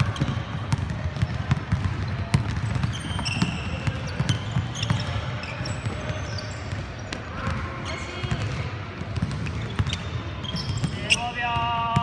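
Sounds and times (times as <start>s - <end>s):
basketball bouncing: 0.0s - 12.0s
sneakers squeaking: 0.0s - 12.0s.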